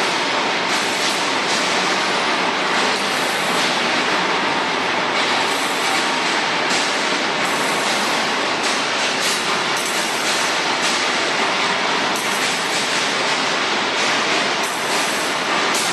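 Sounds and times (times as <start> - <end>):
welding machine running: 0.0 - 15.9.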